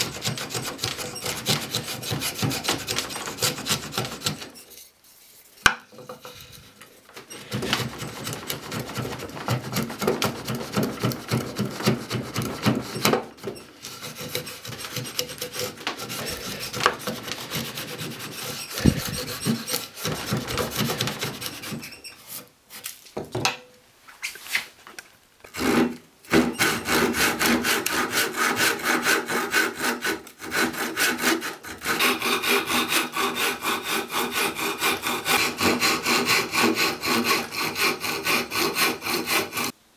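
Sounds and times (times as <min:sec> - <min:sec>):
hand plane cutting wood: 0:00.0 - 0:04.6, 0:07.2 - 0:22.5, 0:25.5 - 0:39.8
handsaw cutting wood: 0:00.0 - 0:04.6, 0:07.3 - 0:22.4, 0:25.5 - 0:39.8.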